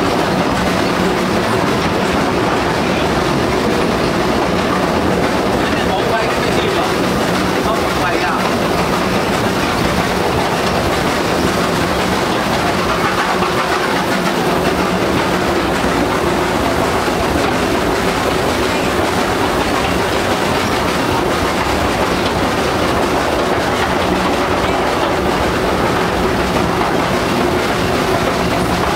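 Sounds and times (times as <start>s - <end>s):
train wheels clattering on track: 0.0s - 28.9s.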